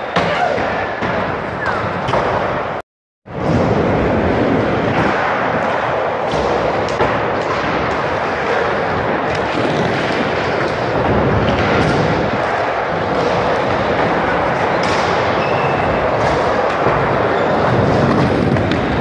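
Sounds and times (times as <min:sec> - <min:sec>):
skateboard wheels rumbling: 0:03.4 - 0:19.0.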